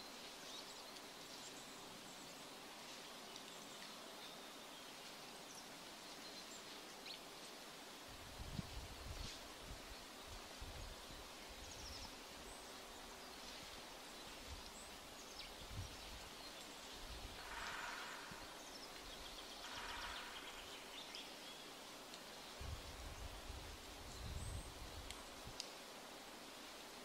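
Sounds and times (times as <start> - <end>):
soft steady hiss: 0.0 - 27.0.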